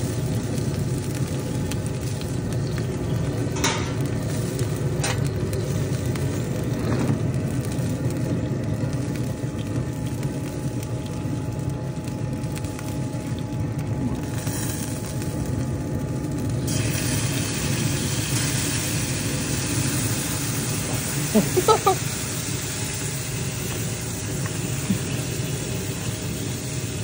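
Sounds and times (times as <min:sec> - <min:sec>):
smoker humming and hissing: 0:00.0 - 0:27.0.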